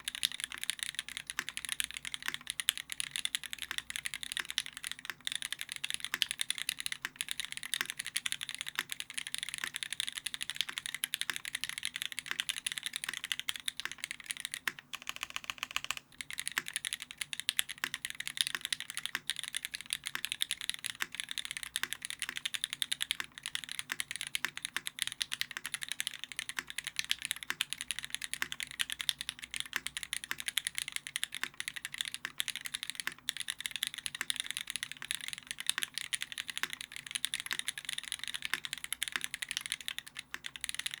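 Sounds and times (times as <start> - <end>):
fast typing on mechanical keyboard: 0.0 - 41.0.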